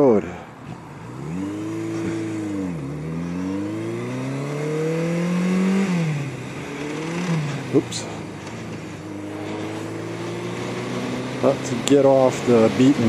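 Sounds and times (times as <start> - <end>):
motorcycle engine accelerating: 0.7 - 13.0.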